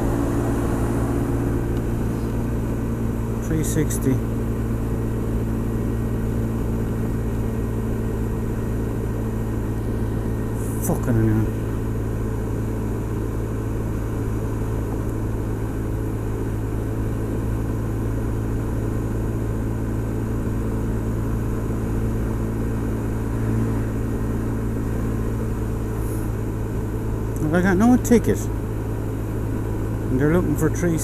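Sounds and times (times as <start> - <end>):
scooter engine idling: 0.0 - 31.0.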